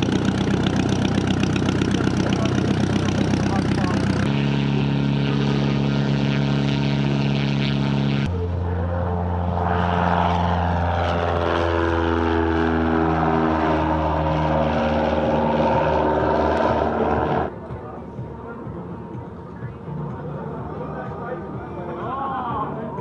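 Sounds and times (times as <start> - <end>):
propeller aircraft engine droning: 0.0 - 23.0.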